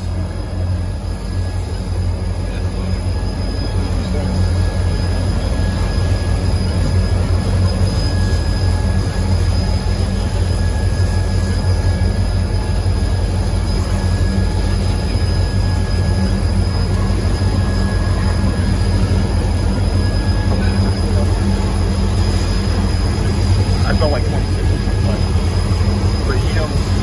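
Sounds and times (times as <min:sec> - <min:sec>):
freight train rumbling past: 0:00.0 - 0:27.0
high wheel squeal on rail: 0:00.0 - 0:27.0.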